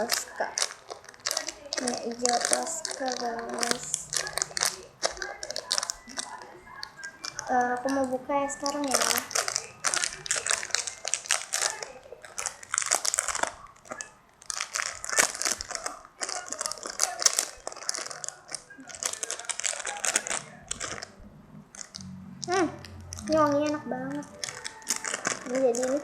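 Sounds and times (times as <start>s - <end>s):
plastic packaging crinkling: 0.0s - 22.1s, 22.8s - 26.0s.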